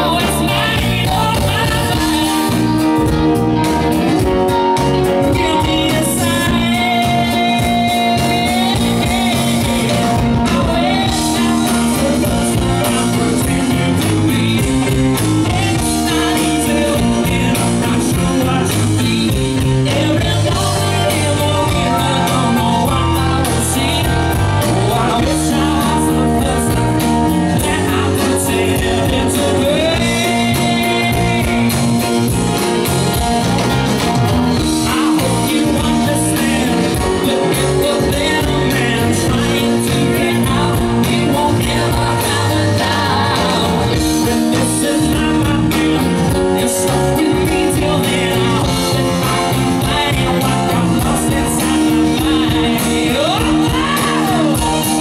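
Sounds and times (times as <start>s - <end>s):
bass guitar: 0.0s - 55.0s
drum kit: 0.0s - 55.0s
electric guitar: 0.0s - 55.0s
keyboard: 0.0s - 55.0s
male lead vocal: 0.0s - 55.0s.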